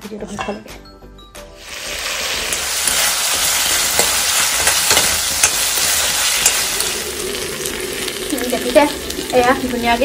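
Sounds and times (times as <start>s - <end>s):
meat sizzling in hot oil: 1.6s - 10.0s.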